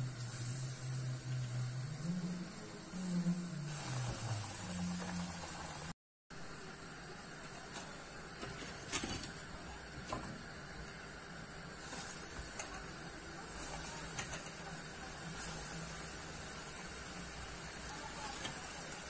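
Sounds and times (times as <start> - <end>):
hot oil sizzling: 0.0 - 19.0.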